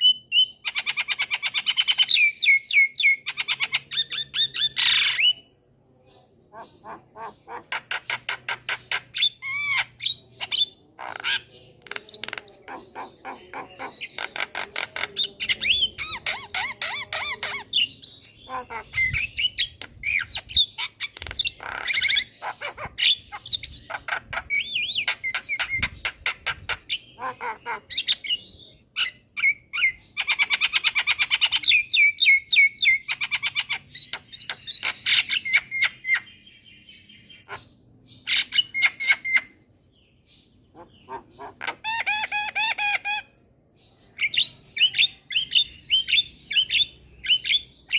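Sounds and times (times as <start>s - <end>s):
bird singing chattering song: 0.0s - 47.9s.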